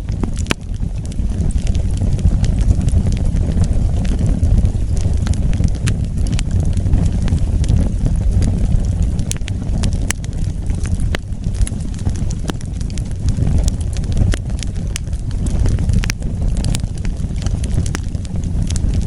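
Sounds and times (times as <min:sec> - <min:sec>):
fire crackling and popping: 0:00.0 - 0:19.0
fire roaring: 0:00.0 - 0:19.0.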